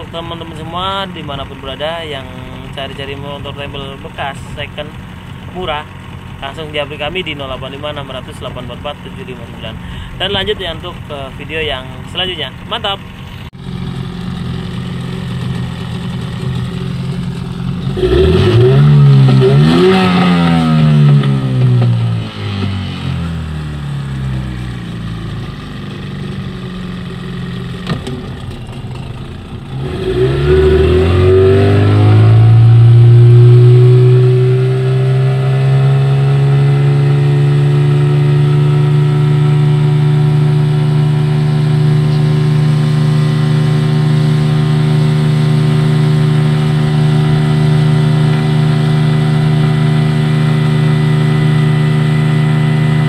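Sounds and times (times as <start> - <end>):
outboard motor running: 0.0 - 22.2, 23.5 - 53.0.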